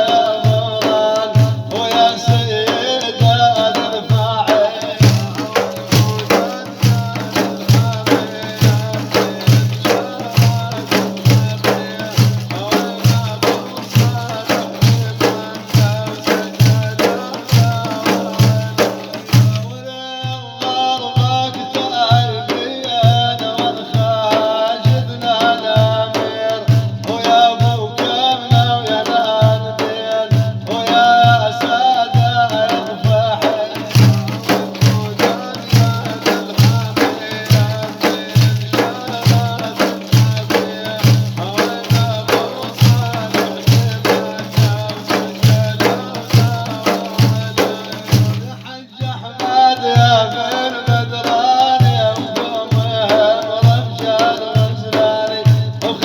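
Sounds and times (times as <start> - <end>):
steady drum beat: 0.0 - 56.0.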